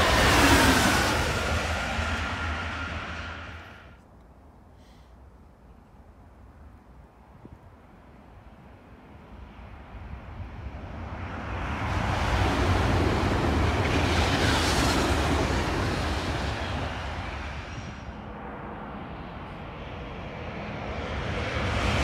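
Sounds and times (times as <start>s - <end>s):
high-speed train passing: 0.0s - 4.0s, 8.2s - 22.0s.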